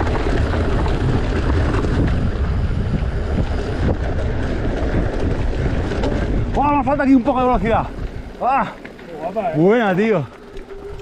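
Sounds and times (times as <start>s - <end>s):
bike rattles and knocks: 0.0s - 11.0s
bike tyre rumble on dirt: 0.0s - 11.0s
wind buffeting microphone: 0.0s - 11.0s.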